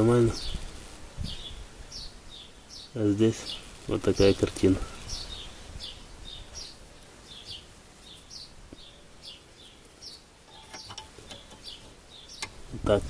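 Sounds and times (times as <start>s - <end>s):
bird chirping: 0.3s - 13.0s.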